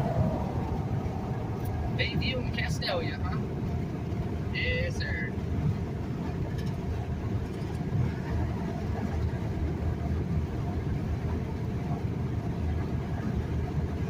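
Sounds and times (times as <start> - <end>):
truck road and engine rumble: 0.0 - 14.0.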